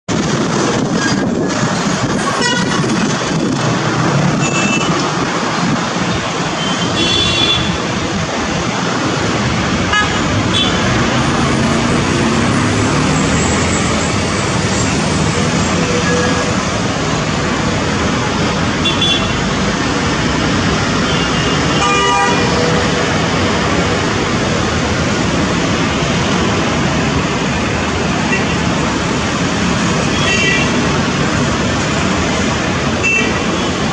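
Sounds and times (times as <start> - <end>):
loud engine and traffic noise: 0.0 - 33.9.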